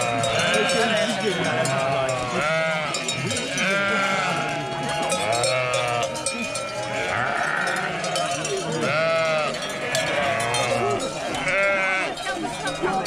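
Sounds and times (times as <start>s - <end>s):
sheep bleating: 0.0s - 12.2s
sheep bells clinking: 0.0s - 13.0s.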